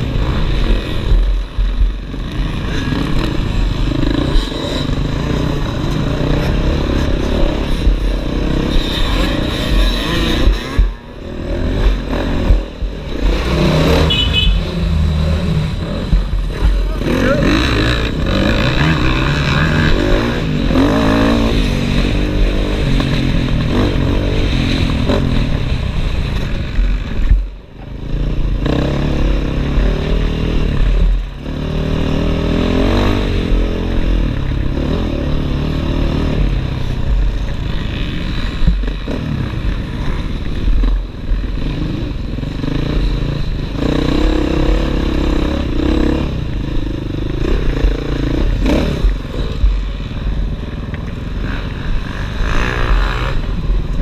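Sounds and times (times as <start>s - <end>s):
dirt bike engine revving: 0.0s - 27.4s, 28.0s - 54.0s.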